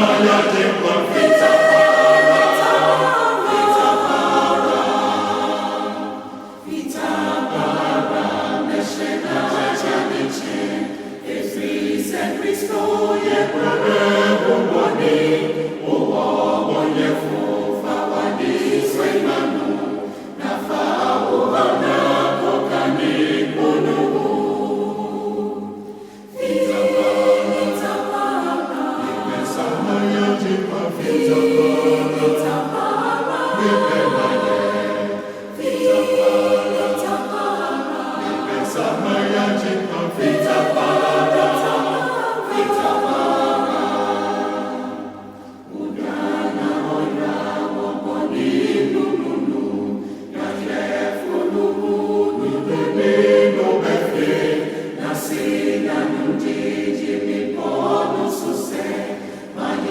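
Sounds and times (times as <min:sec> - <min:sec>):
choir singing a hymn a cappella: 0:00.0 - 0:59.9.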